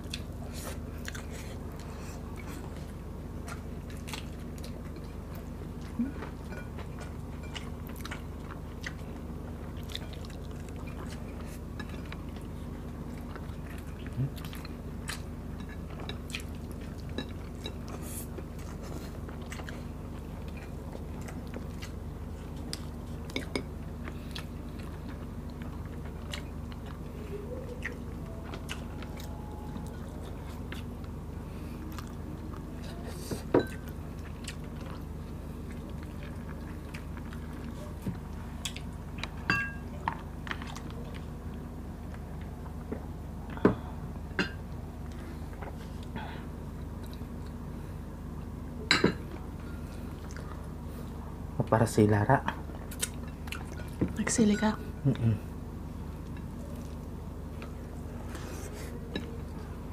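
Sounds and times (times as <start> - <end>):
people chewing food: 0.0 - 59.9
steady low hum: 0.0 - 59.9.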